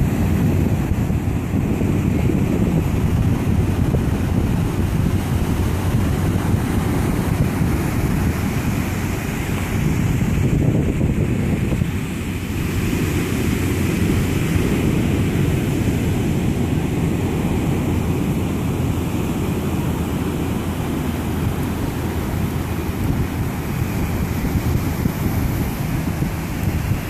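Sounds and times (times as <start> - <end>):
ocean surf breaking: 0.0 - 27.0
wind buffeting microphone: 0.0 - 27.0.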